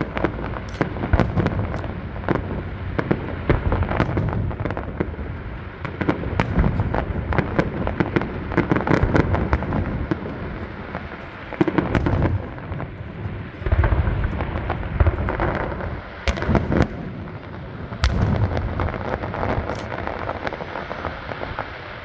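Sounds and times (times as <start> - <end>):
firework shell booms: 0.0 - 10.6, 11.6 - 21.7
firework cracks and crackling: 0.0 - 22.0.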